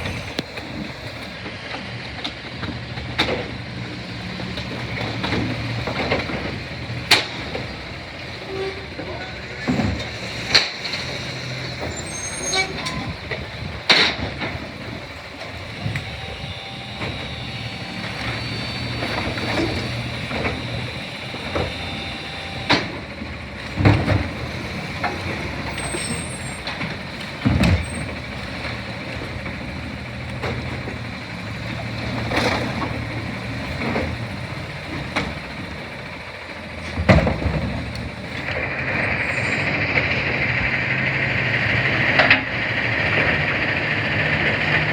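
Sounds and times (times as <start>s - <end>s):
garbage truck engine running: 0.0s - 44.9s.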